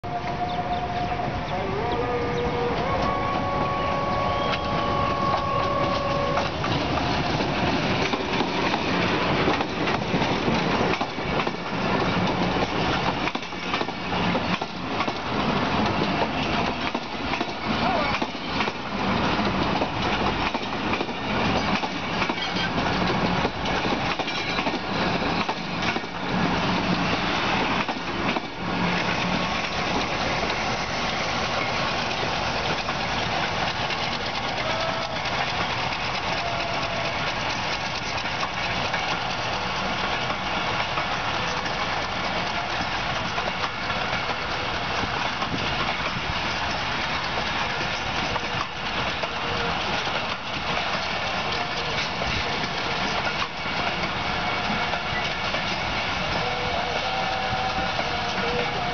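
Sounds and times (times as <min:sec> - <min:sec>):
passing train running noise: 0:00.0 - 0:58.9
train wheel clicks: 0:03.0 - 0:58.9.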